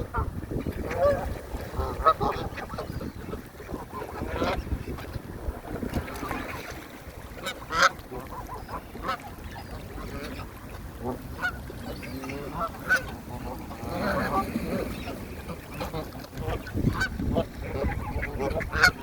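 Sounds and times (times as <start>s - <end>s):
geese honking: 0.1s - 4.7s, 7.4s - 19.0s.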